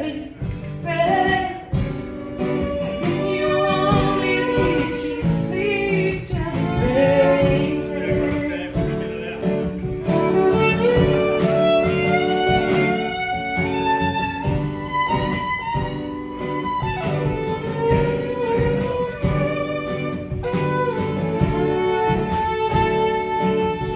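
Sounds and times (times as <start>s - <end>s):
drum kit: 0.0s - 23.9s
strummed acoustic guitar: 0.0s - 23.9s
fiddle playing melody: 1.5s - 23.9s.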